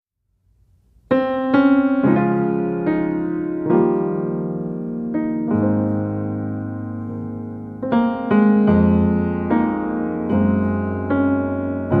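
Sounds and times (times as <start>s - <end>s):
slow piano notes and chords: 0.9s - 12.0s.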